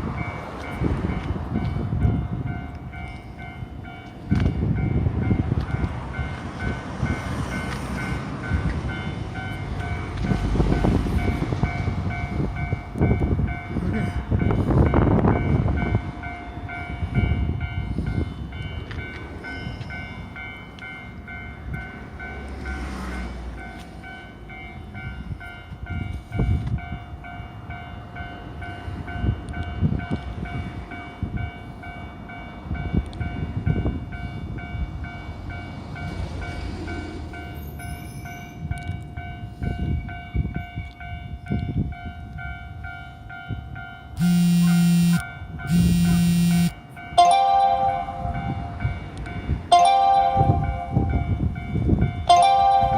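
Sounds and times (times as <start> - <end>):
train rumbling with wheel clacks: 0.0 - 44.2, 48.2 - 52.9
level-crossing warning bell: 0.0 - 52.9.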